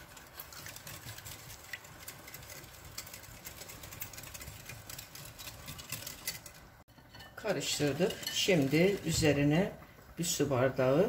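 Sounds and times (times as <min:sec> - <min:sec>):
whisk clicking on glass bowl: 0:00.0 - 0:09.6
liquid swishing: 0:00.0 - 0:10.2.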